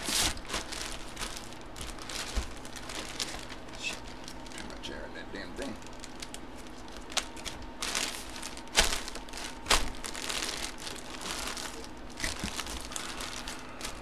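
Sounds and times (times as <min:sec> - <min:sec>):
plastic bag crinkling: 0:00.0 - 0:04.9, 0:05.6 - 0:14.0.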